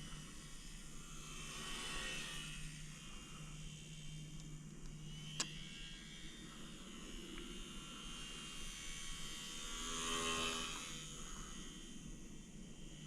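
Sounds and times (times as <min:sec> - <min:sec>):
model plane motor buzzing: 0:00.2 - 0:13.0.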